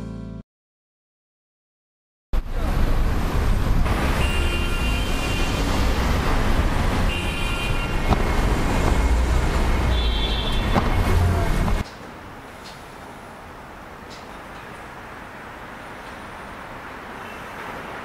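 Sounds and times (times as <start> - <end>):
cars passing: 2.4 - 18.0.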